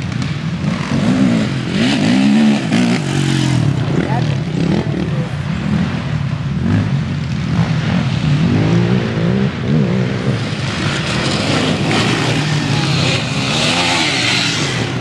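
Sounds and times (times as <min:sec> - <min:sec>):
quad engines revving: 0:00.0 - 0:15.0.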